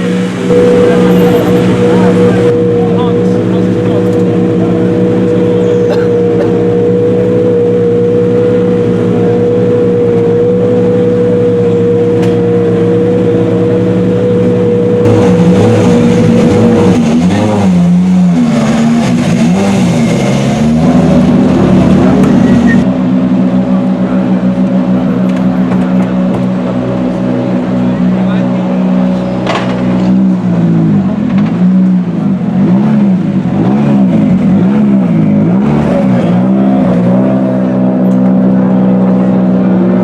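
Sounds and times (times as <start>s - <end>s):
car engine running steadily: 0.0s - 40.0s
loud car engine revving: 0.0s - 40.0s.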